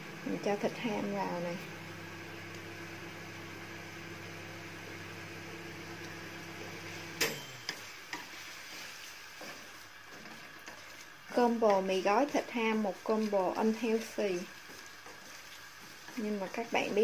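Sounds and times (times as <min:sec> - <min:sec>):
food sizzling in frying pan: 0:00.0 - 0:17.0
low electrical hum: 0:00.0 - 0:17.0.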